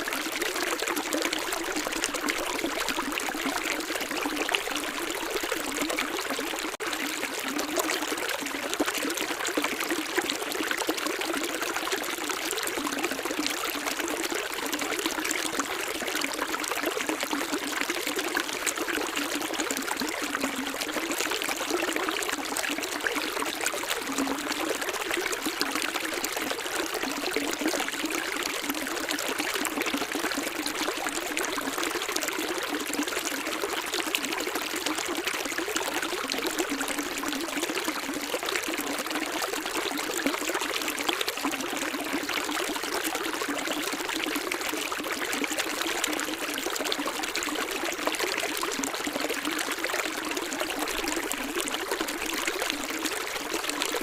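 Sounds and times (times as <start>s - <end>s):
stream trickling and splashing: 0.0s - 54.0s.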